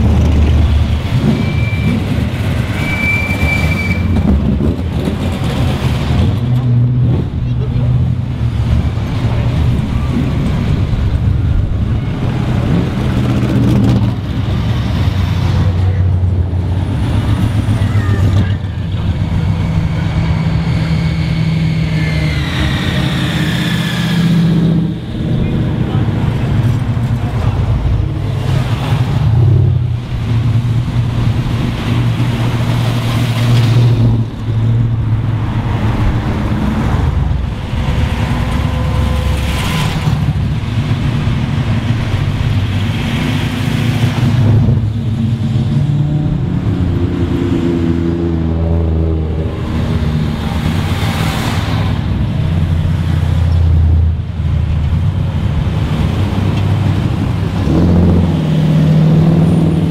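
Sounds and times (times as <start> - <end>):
cars cruising past: 0.0 - 59.9
engine revving: 4.2 - 59.9.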